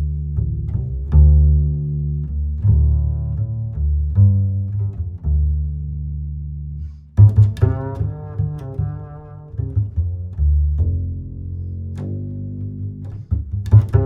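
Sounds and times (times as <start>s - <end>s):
low string instruments bowed and plucked: 0.0s - 14.0s.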